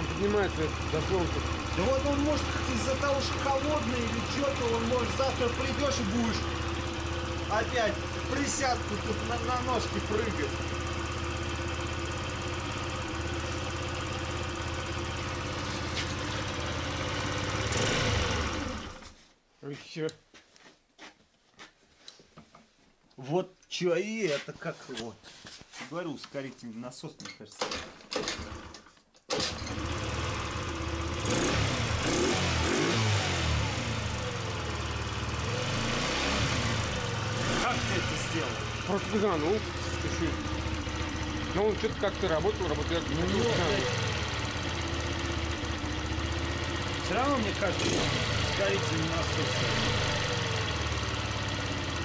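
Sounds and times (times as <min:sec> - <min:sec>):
scooter engine idling: 0:00.0 - 0:19.2, 0:28.4 - 0:28.7, 0:29.7 - 0:52.0.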